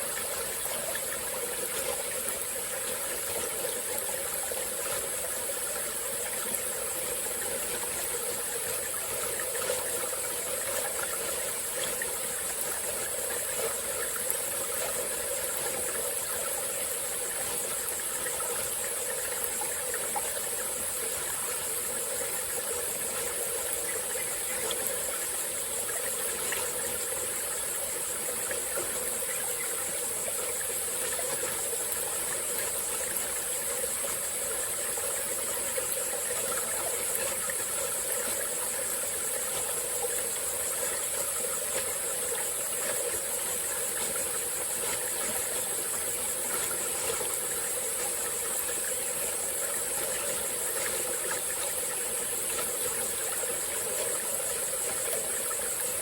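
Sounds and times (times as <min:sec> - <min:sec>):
high-pitched insect chorus: 0:00.0 - 0:56.0
stream flowing over rocks: 0:00.0 - 0:56.0.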